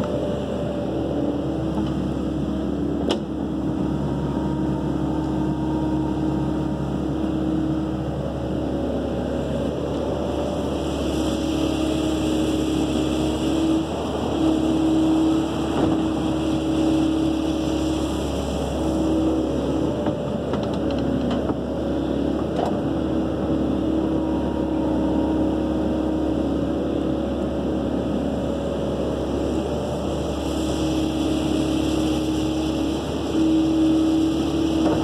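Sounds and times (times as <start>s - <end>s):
excavator diesel engine under load: 0.0s - 35.0s.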